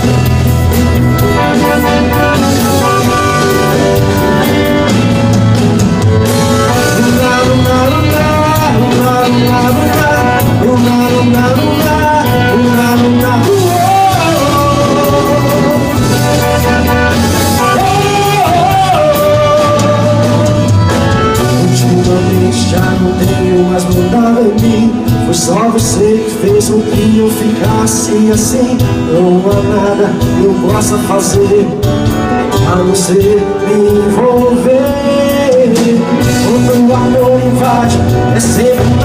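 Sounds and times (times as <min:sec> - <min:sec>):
melodic lead over bass and beat: 0:00.0 - 0:39.0.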